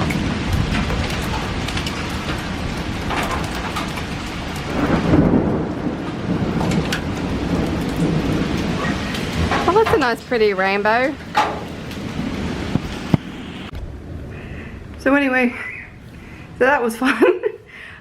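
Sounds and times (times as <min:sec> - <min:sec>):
thunder rumbling: 0:00.0 - 0:15.3
steady rain falling: 0:00.0 - 0:15.5.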